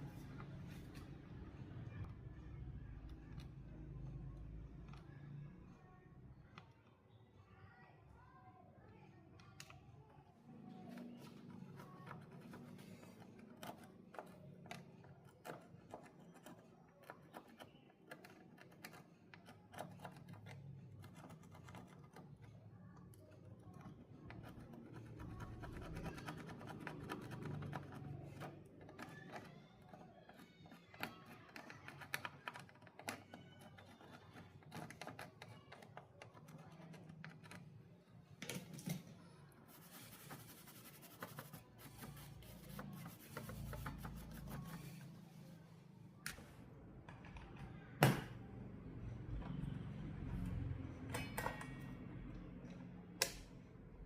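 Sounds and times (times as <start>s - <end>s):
faint clicks and scratching: 0.0s - 7.4s, 9.1s - 47.9s.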